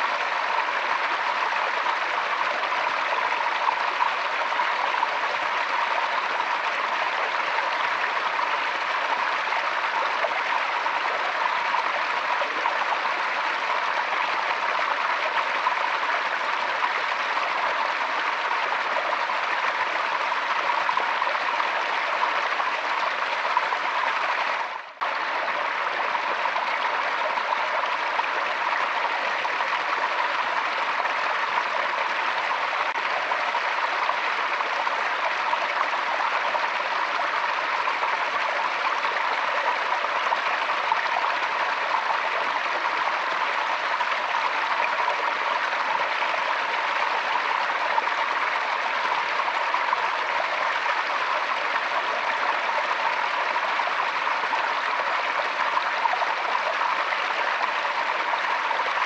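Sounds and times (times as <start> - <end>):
stream flowing over stones: 0.0 - 59.0.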